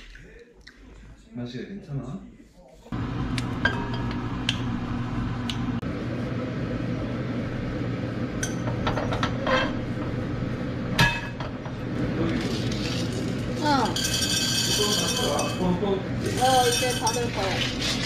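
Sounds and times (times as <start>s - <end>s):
steady hum: 2.9s - 18.0s.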